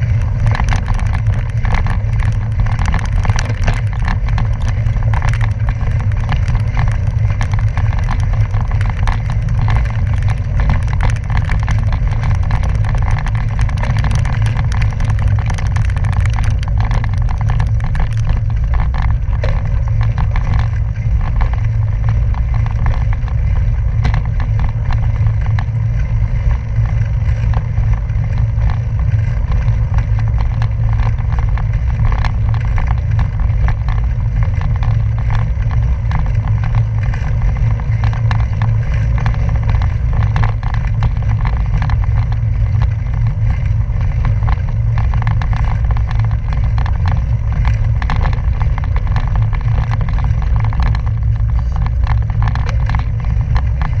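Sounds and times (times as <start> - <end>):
bicycle tyres crunching gravel: 0.0 - 54.0
wind rumble on microphone: 0.0 - 54.0.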